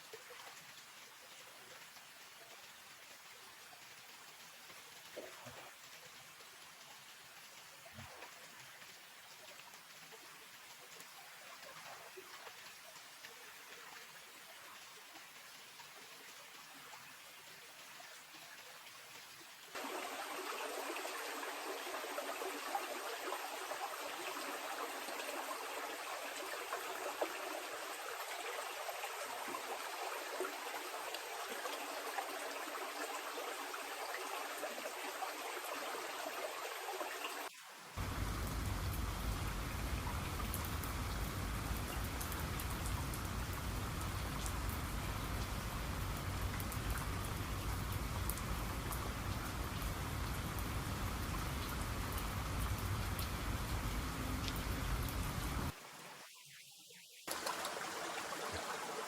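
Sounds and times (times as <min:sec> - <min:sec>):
rain falling: 0:00.5 - 0:56.2, 0:57.2 - 0:59.0.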